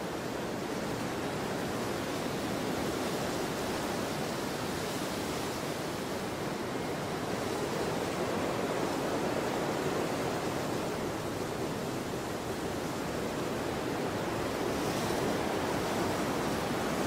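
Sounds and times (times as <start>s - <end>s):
rushing wind: 0.0s - 17.0s.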